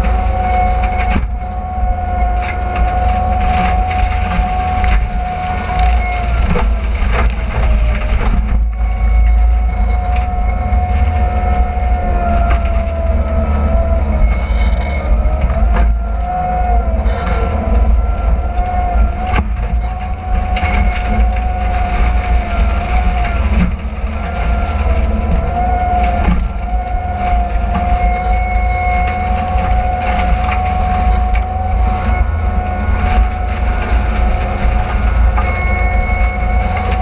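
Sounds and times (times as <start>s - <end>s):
diesel engine under load: 0.0s - 37.0s
mulcher whine: 0.0s - 37.0s
wood cracking: 0.0s - 37.0s.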